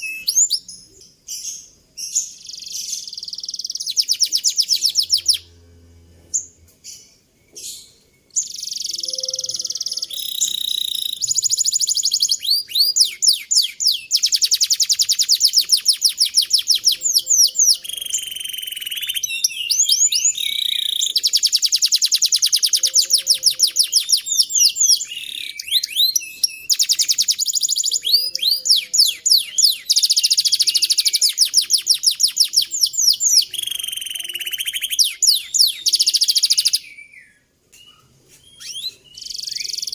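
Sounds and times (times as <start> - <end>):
canary trilling song: 0.0 - 39.9.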